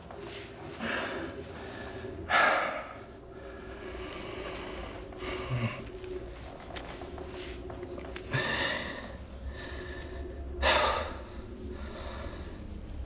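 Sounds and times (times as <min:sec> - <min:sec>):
person breathing heavily: 0:00.1 - 0:13.0.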